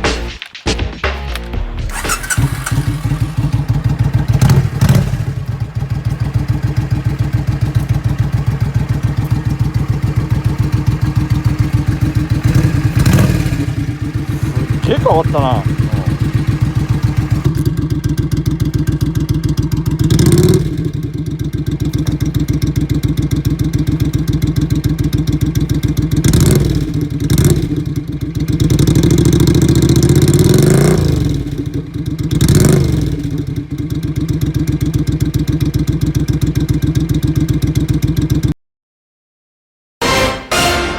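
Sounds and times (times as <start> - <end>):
motorcycle engine idling: 1.9 - 38.5
motorcycle throttle blips: 1.9 - 38.5.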